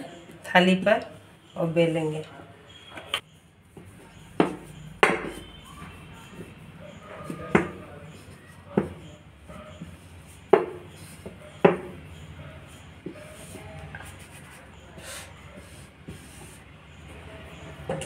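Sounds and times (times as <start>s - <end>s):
rolling pin rubbing dough: 3.4s - 18.0s.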